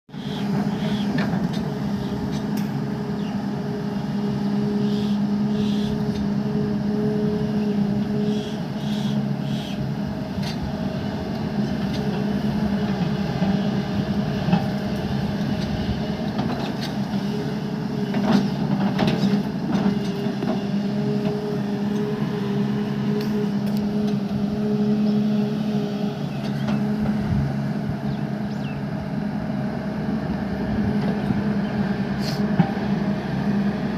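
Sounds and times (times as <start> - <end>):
heavy machine engine running: 0.1 - 33.9.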